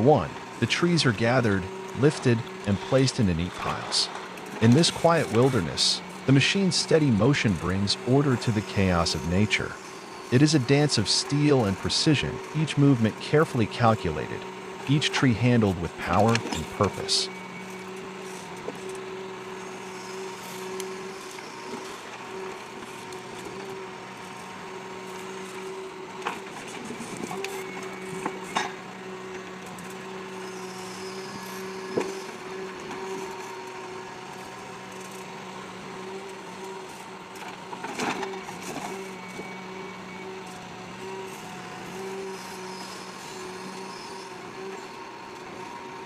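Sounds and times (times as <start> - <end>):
machine engine and hydraulics hum: 0.0 - 46.0.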